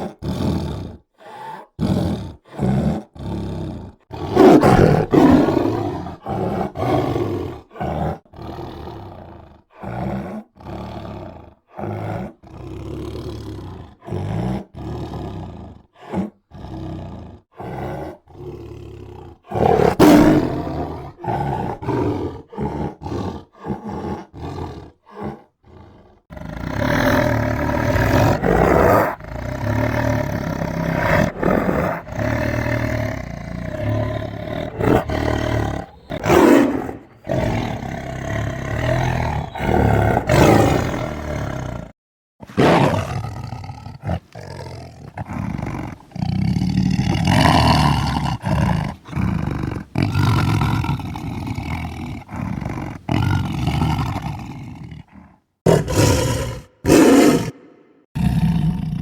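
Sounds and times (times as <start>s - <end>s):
tiger roaring and growling: 0.0s - 59.0s.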